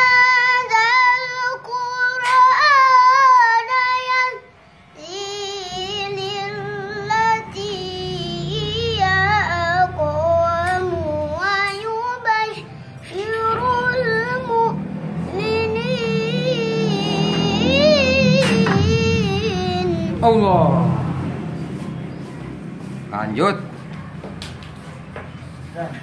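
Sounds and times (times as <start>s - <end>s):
boy chanting melodic recitation: 0.0s - 20.9s.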